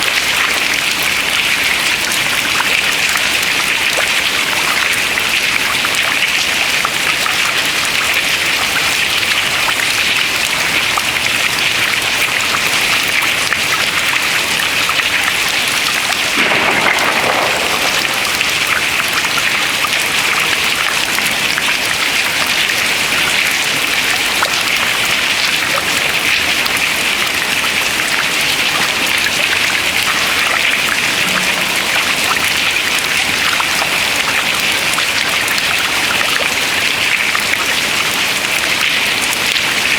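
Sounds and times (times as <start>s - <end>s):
meltwater dripping into water: 0.0s - 39.9s.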